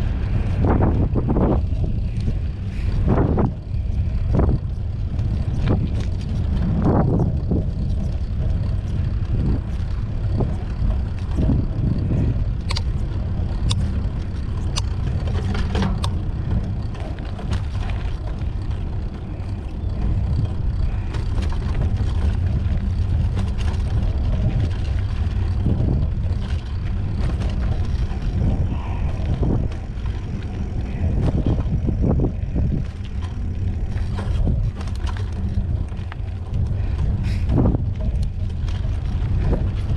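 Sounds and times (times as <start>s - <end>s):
bike clicks and rattles: 0.0s - 39.9s
wind rumbling on microphone: 0.0s - 39.9s.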